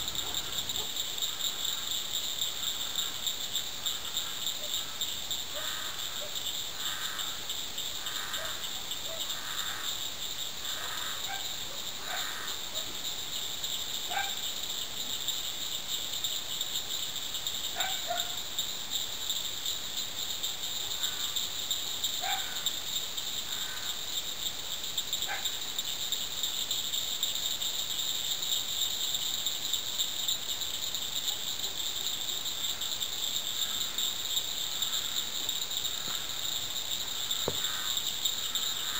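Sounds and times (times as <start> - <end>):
insect chorus trilling: 0.0 - 38.9.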